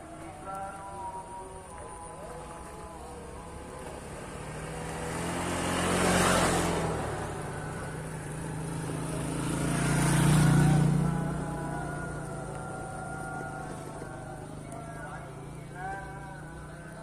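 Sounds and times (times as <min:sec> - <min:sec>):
motorcycles passing by: 0:00.0 - 0:17.0.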